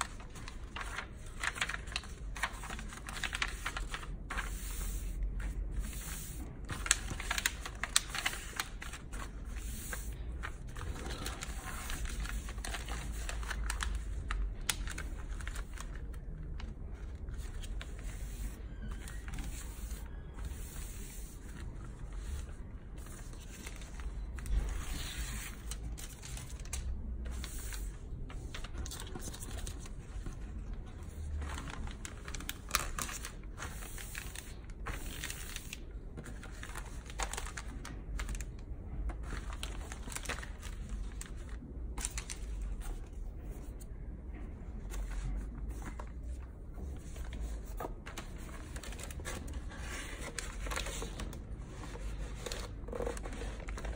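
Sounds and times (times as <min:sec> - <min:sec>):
plastic film crinkling: 0:00.0 - 0:43.1, 0:45.2 - 0:53.9.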